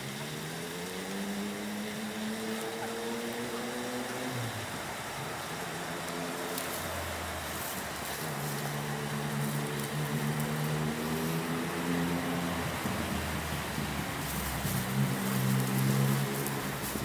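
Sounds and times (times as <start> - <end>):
engine humming: 0.0 - 17.0
steady hiss: 0.0 - 17.0.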